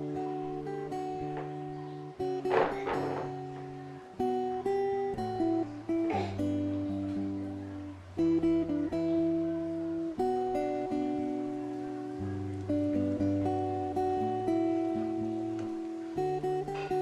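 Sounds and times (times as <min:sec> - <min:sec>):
acoustic guitar slow chords: 0:00.0 - 0:17.0.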